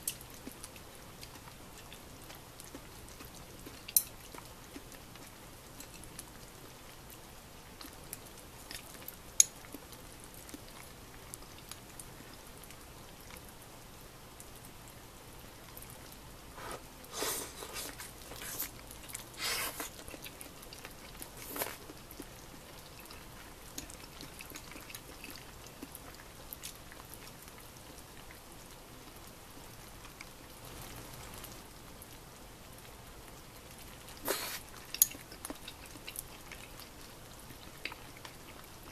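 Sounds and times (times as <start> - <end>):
slurping and chewing: 0.0 - 13.6, 15.7 - 31.5, 32.8 - 38.9.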